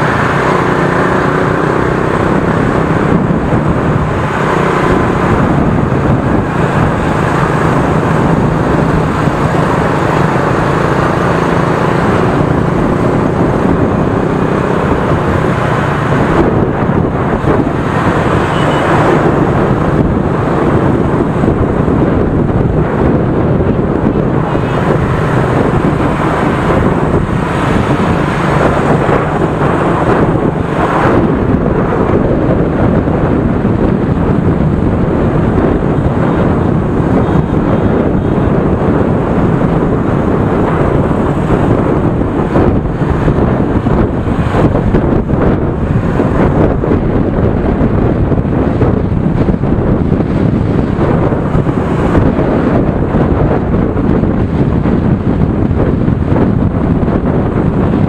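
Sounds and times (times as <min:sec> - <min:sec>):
motorbike engines and road noise: 0:00.0 - 0:58.0
wind on microphone: 0:00.0 - 0:58.0.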